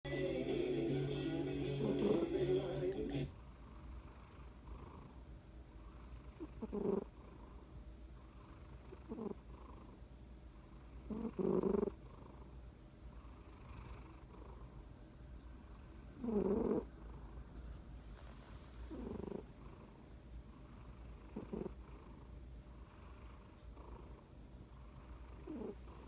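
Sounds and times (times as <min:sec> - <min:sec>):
cat snoring: 0:01.6 - 0:10.0, 0:10.6 - 0:14.8, 0:15.6 - 0:17.4, 0:18.6 - 0:26.0.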